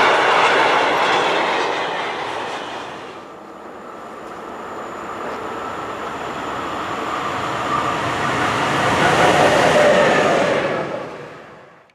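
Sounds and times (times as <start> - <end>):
electric locomotive rolling: 0.0 - 11.9.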